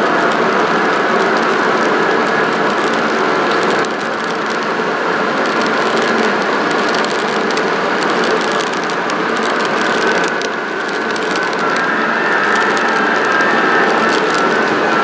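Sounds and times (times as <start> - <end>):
model train running: 0.0 - 15.0
wheels clicking on track: 0.0 - 15.0.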